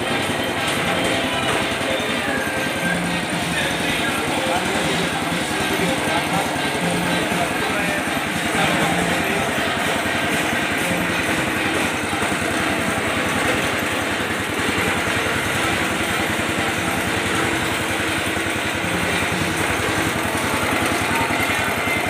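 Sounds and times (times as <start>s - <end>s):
machine grating pulp: 0.0s - 22.0s
small petrol engine running: 0.0s - 22.0s.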